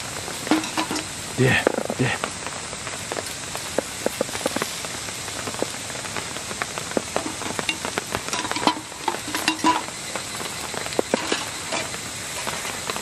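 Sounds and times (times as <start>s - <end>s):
crackles and pops: 0.0s - 13.0s
food sizzling in skillet: 0.0s - 13.0s.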